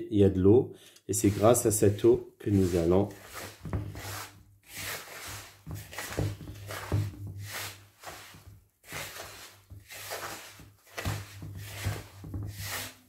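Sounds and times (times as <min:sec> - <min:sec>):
hands rubbing semolina in bowl: 0:01.2 - 0:13.0.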